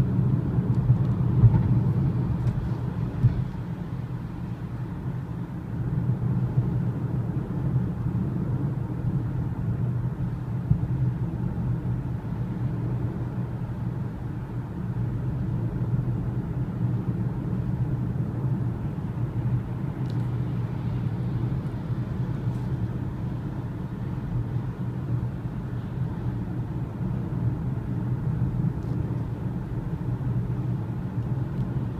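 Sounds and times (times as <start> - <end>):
car cabin road rumble: 0.0 - 31.9.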